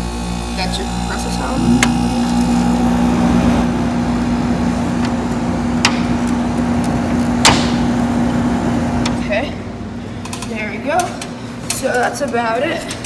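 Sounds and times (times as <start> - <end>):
air conditioner compressor humming: 0.0 - 13.0.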